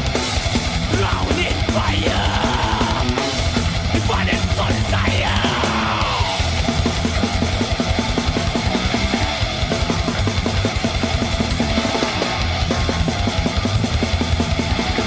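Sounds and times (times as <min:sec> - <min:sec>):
thrash metal band: 0:00.0 - 0:15.0.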